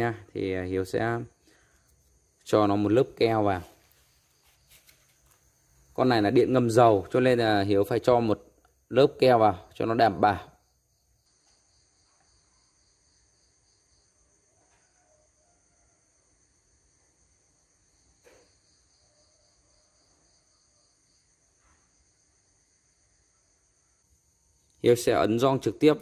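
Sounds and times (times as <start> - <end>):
faint insect chirring: 0.0 - 26.0.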